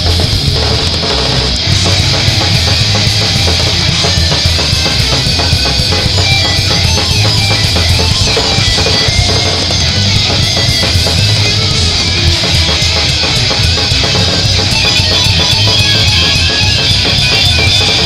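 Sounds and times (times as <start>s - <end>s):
distorted electric guitars: 0.0s - 18.0s
fast drum kit playing: 0.0s - 18.0s.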